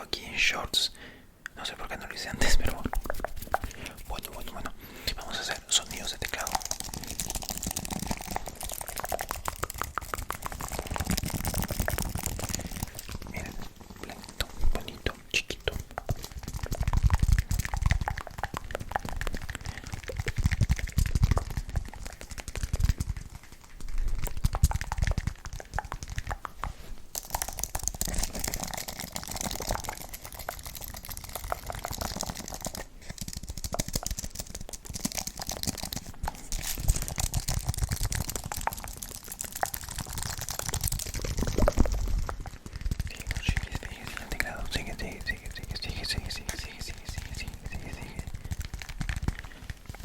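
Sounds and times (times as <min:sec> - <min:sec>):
computer keyboard typing: 0:05.2 - 0:14.9, 0:15.7 - 0:50.0.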